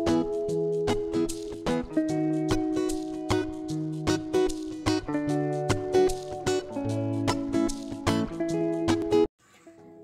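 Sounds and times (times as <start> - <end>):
background music with steady beat: 0.0 - 9.3.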